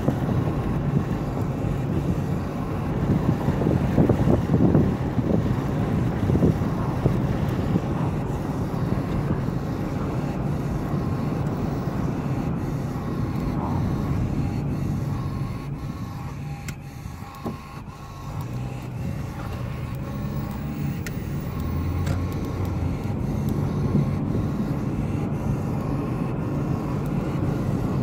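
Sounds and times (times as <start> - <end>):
car engine: 0.0 - 28.0
road noise: 0.0 - 28.0
wind rushing past car window: 0.0 - 28.0.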